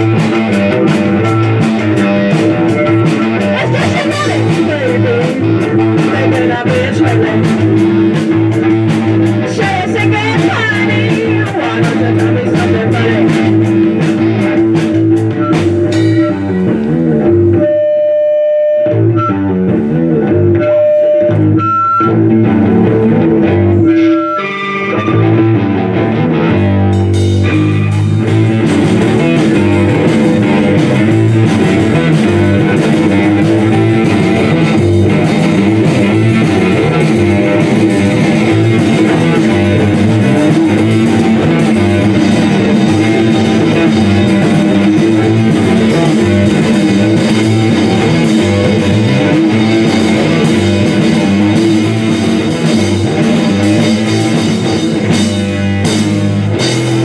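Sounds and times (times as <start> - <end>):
drum kit: 0.0 - 17.7, 19.6 - 57.0
electric guitar: 0.0 - 57.0.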